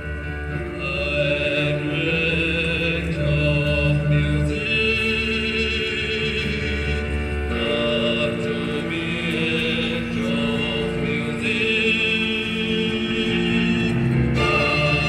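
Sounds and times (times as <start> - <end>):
slow choir-like singing: 0.0 - 15.0.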